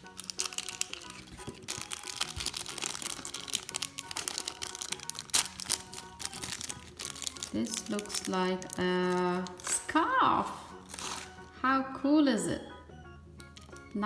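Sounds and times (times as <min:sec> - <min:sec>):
plastic wrapping crinkling: 0:00.0 - 0:11.6, 0:13.4 - 0:13.9
background music: 0:00.0 - 0:14.0.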